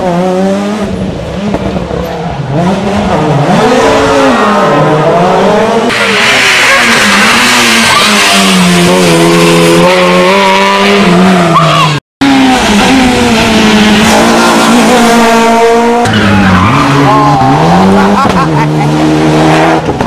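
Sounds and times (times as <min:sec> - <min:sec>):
rally car engines revving: 0:00.0 - 0:20.0.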